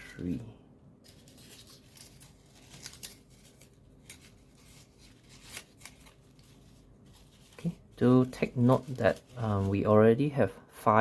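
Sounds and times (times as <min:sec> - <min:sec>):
paper rustling and crinkling: 0:01.0 - 0:10.1.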